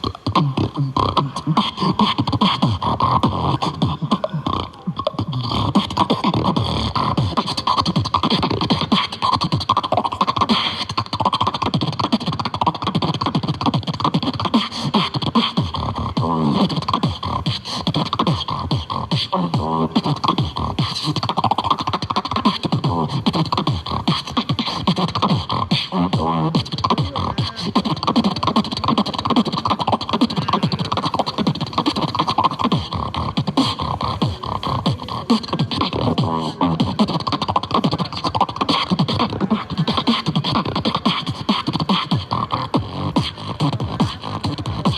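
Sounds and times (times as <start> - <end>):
vocal beatboxing: 0.0 - 44.9.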